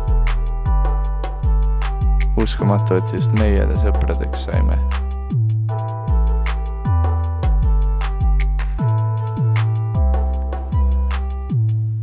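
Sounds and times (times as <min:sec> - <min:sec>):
deep bass notes dropping in pitch: 0:00.0 - 0:02.5, 0:03.6 - 0:12.0.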